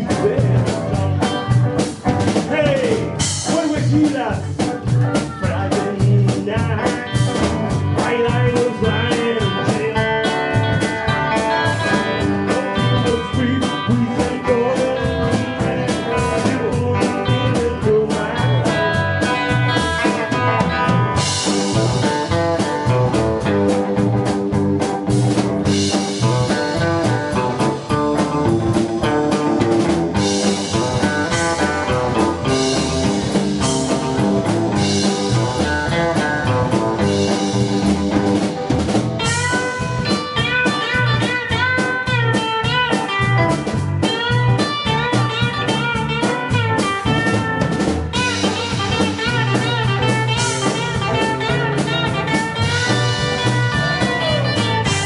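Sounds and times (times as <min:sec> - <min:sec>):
band playing country-blues: 0:00.0 - 0:55.0.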